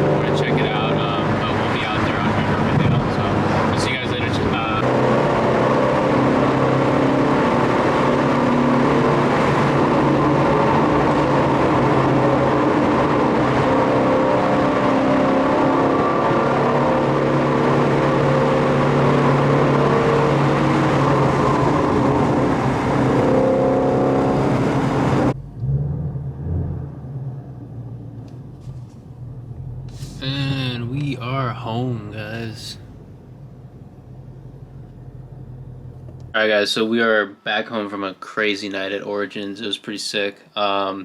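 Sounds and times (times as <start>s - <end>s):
car engine and road noise: 0.0s - 36.4s.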